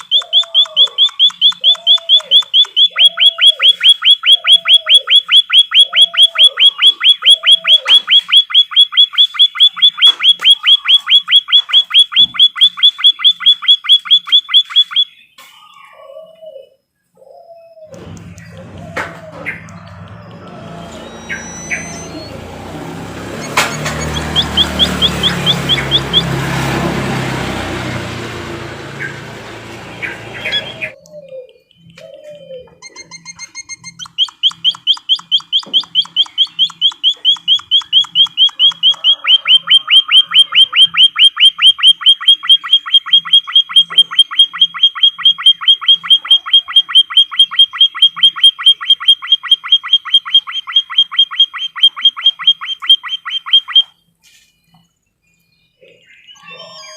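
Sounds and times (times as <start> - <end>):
rapid high bird chirps: 0.0 - 16.0, 17.9 - 56.9.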